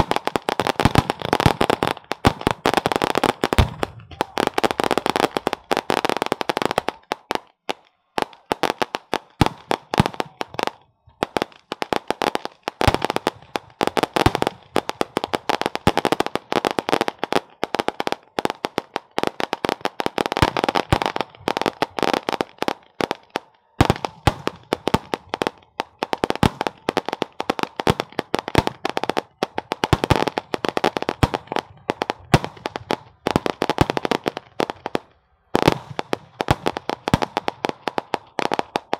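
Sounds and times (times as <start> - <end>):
firecrackers popping: 0.0 - 38.9.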